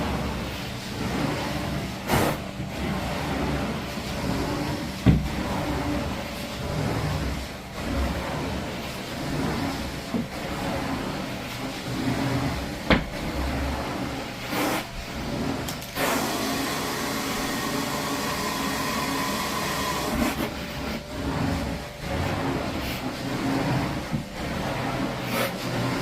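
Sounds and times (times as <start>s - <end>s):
vacuum machine running: 0.0s - 26.0s.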